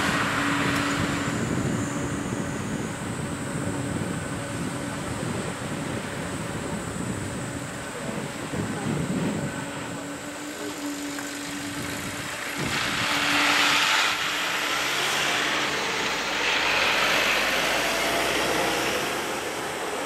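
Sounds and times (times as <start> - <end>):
distant jet engines humming: 0.0 - 20.0
hiss: 0.0 - 20.0.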